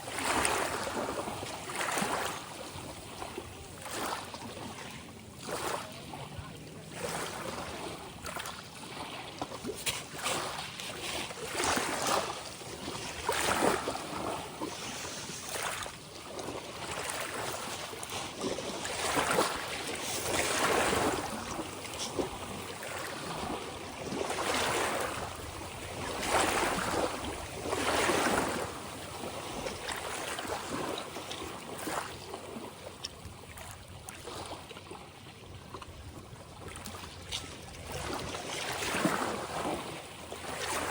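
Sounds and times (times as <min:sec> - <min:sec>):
ocean waves splashing: 0:00.0 - 0:32.9, 0:36.6 - 0:40.9.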